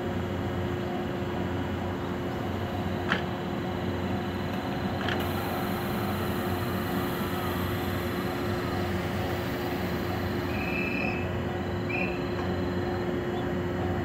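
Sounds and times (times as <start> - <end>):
train electrical hum: 0.0 - 14.0.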